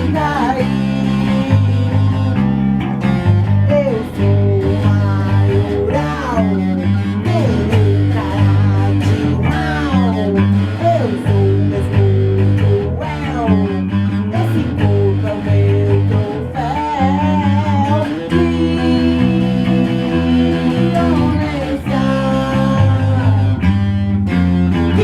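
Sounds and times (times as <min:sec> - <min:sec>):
rock band playing: 0:00.0 - 0:25.0
sliding lead guitar line: 0:00.0 - 0:25.0.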